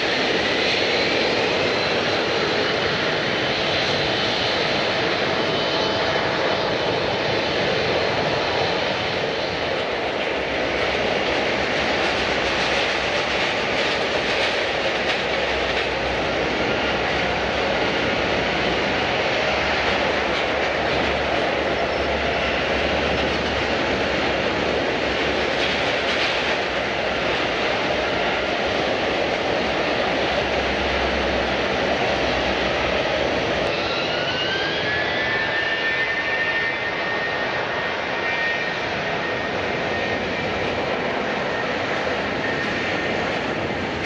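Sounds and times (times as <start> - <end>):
faint engine whine: 0.0 - 44.0
jet engines roaring: 0.0 - 44.0.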